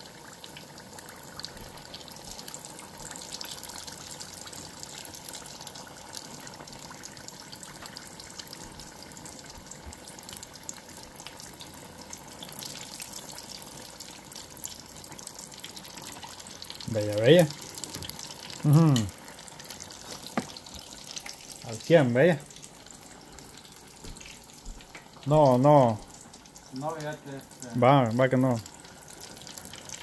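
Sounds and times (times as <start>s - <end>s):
food deep-frying in oil: 0.0s - 30.0s.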